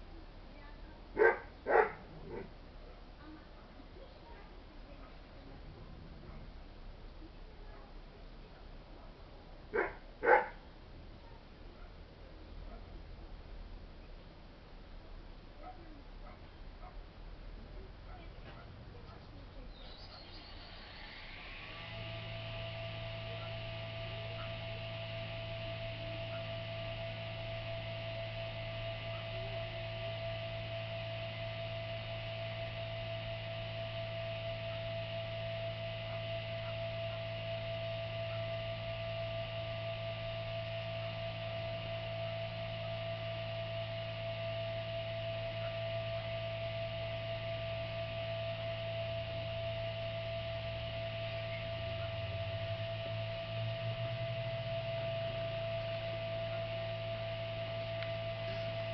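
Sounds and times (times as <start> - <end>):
constant whine: 0.0 - 58.9
electrical hum: 0.0 - 58.9.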